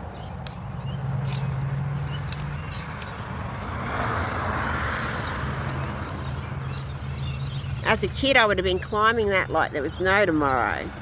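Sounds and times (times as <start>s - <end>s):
car passing: 0.0s - 8.9s.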